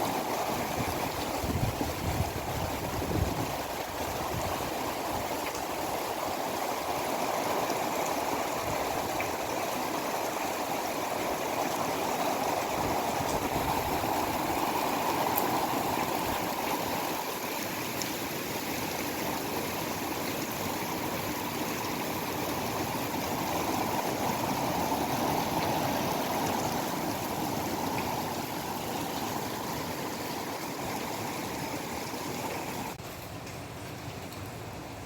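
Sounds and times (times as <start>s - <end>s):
heavy rain rushing: 0.0s - 35.0s.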